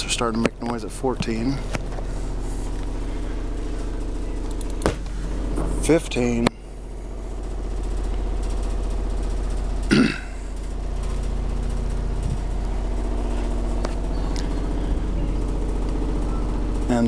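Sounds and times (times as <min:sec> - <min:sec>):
house fittings vibrating: 0:00.0 - 0:17.0
subwoofer buzzing drone: 0:00.0 - 0:17.0.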